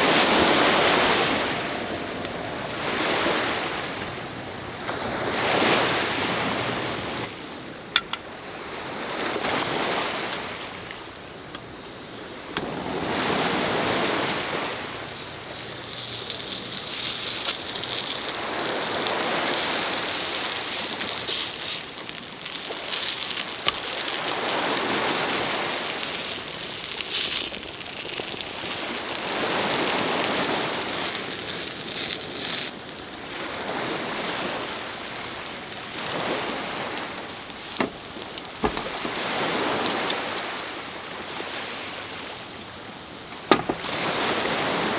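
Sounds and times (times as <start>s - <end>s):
sea waves breaking: 0.0s - 44.9s.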